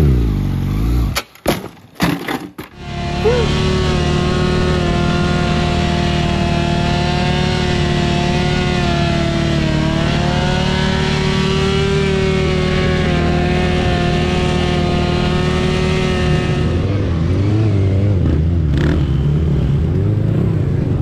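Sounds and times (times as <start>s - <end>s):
motorcycle engine at steady revs: 0.0s - 1.2s, 2.7s - 21.0s.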